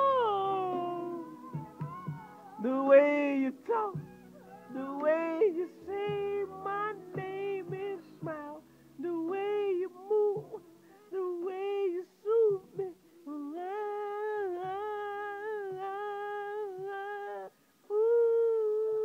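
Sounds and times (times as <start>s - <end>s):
man singing in high voice: 0.0s - 19.0s.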